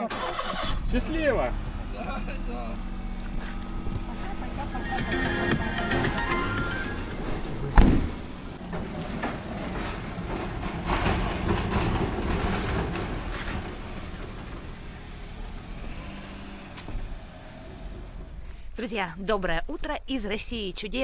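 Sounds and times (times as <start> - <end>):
car engine running: 0.0 - 18.8
tyres crunching on gravel: 0.3 - 19.1.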